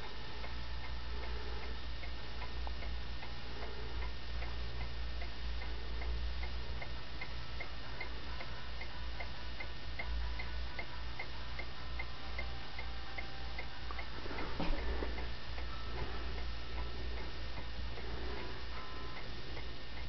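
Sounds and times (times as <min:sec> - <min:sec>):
clock ticking: 0:00.0 - 0:20.0
low steady hum: 0:00.0 - 0:20.0.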